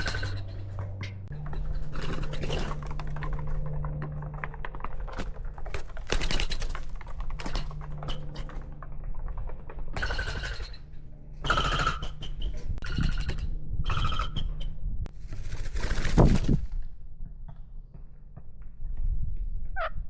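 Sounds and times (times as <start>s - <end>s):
birds pecking and scratching: 0.0s - 16.8s.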